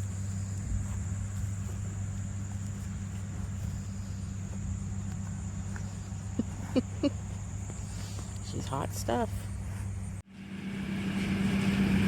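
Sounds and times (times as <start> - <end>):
crickets trilling: 0.0 - 10.2
low engine hum: 0.0 - 12.0.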